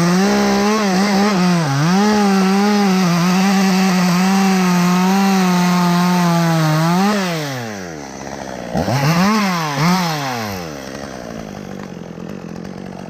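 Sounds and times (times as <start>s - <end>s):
two-stroke chainsaw revving: 0.0s - 13.0s.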